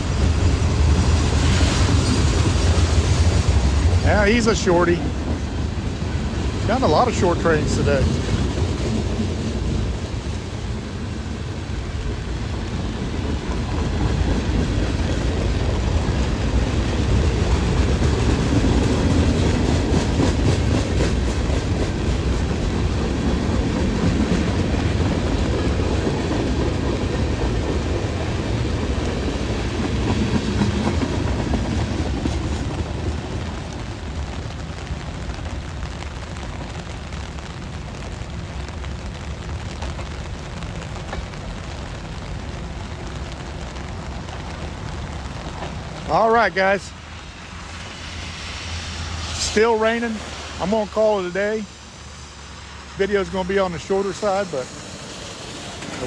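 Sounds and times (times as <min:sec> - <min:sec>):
wheels clacking over rail joints: 0:00.0 - 0:38.1, 0:39.2 - 0:46.7, 0:53.2 - 0:56.0
freight train rumbling past: 0:00.0 - 0:56.0.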